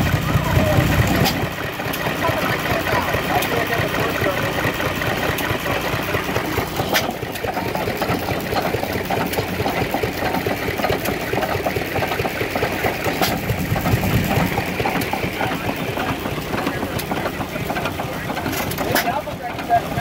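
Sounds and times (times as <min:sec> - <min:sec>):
stationary gas engines clattering: 0:00.0 - 0:20.0.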